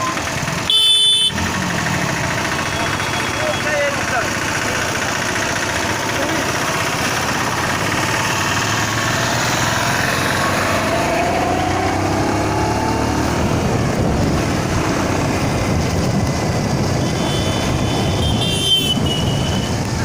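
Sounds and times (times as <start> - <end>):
traffic and road noise: 0.0 - 20.0
vehicle engine running: 0.0 - 20.0.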